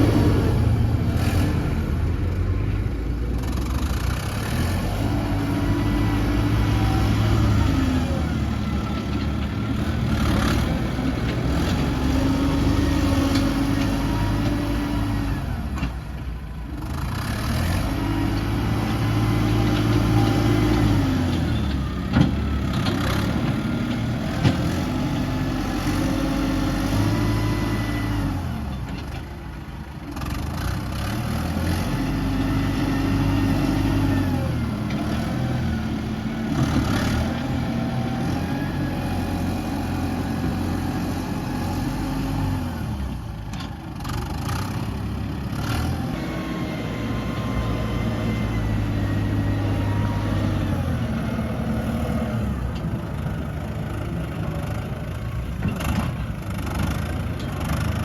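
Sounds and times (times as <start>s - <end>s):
heavy diesel engine revving: 0.0s - 29.2s, 29.8s - 58.0s.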